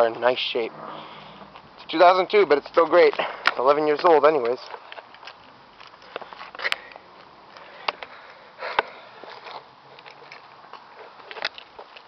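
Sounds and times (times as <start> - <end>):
footsteps on a driveway: 0.0 - 12.0.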